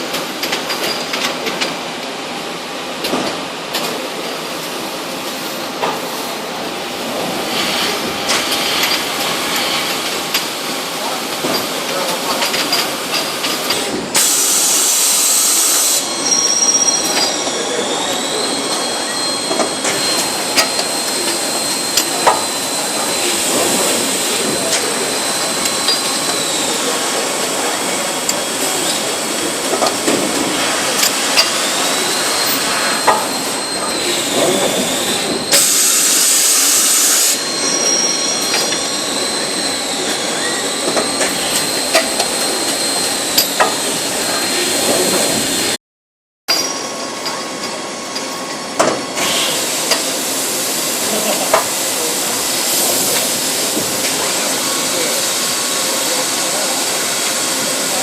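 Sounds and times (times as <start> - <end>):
train running: 0.0 - 45.8, 46.6 - 58.0.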